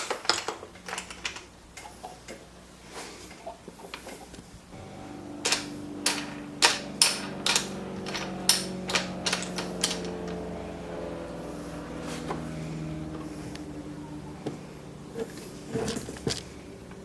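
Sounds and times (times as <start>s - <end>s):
steady low hum: 1.5s - 17.0s.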